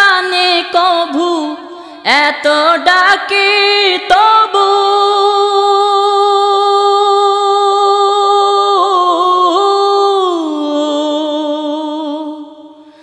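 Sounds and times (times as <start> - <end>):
person singing unaccompanied: 0.0 - 12.8.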